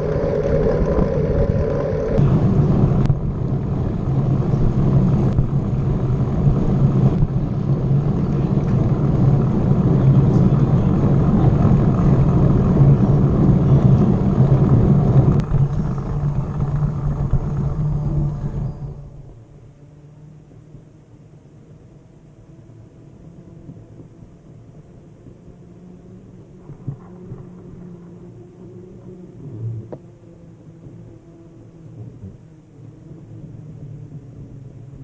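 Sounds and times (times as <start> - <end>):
bicycle rumbling: 0.0 - 35.0.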